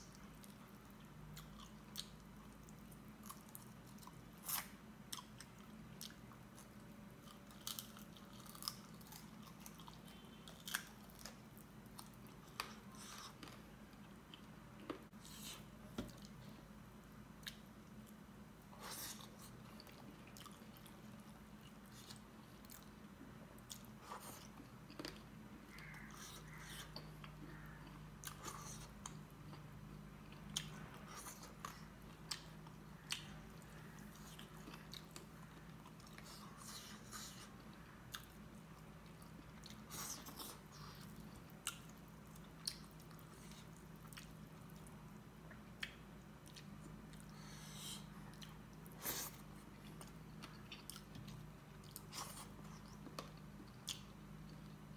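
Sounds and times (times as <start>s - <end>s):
man chewing food: 0.0s - 16.7s, 17.3s - 23.0s, 23.6s - 54.9s
faint low hum: 0.0s - 54.9s.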